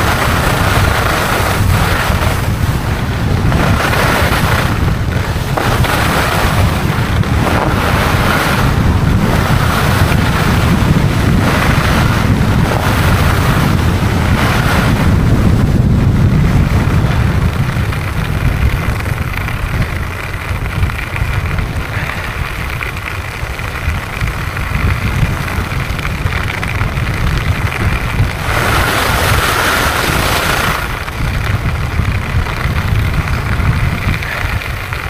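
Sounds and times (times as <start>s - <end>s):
skis scraping over snow: 0.0s - 35.0s
wind buffeting microphone: 0.0s - 35.0s.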